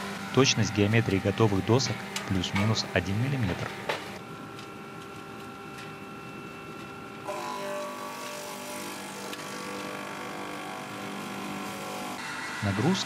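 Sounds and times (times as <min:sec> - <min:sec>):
circular saw machine whine: 0:00.0 - 0:13.0.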